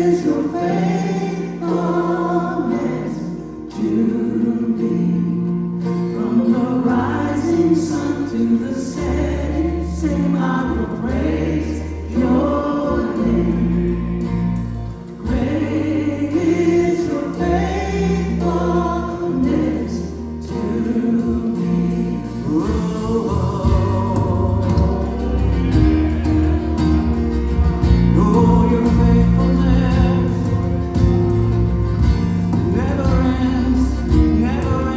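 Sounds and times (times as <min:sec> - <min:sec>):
choir singing gospel: 0:00.0 - 0:34.9
sustained bass line: 0:04.7 - 0:34.9.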